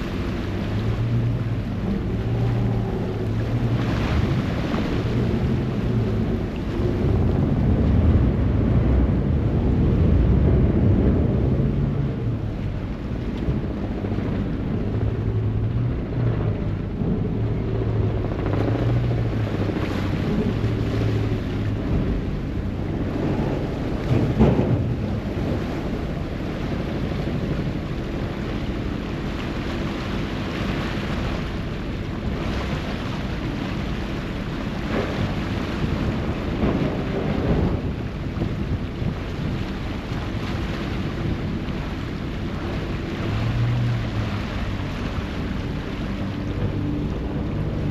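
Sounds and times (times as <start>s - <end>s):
churning water: 0.0s - 47.9s
ferry engine humming: 0.0s - 47.9s
wind on microphone: 0.0s - 47.9s.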